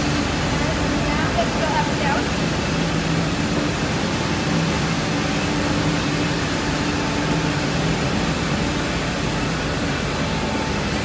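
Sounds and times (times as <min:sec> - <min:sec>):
low steady drone: 0:00.0 - 0:11.0
machinery hum: 0:00.0 - 0:11.0.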